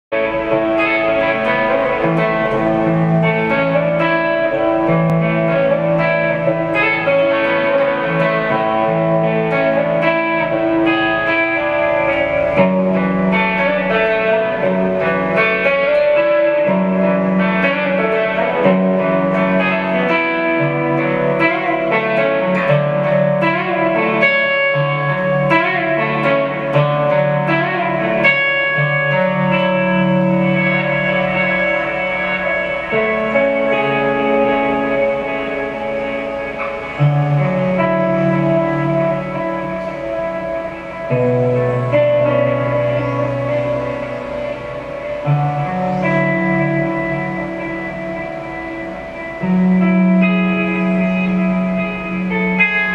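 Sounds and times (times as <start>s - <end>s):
electric guitar with reverb: 0.0s - 52.9s.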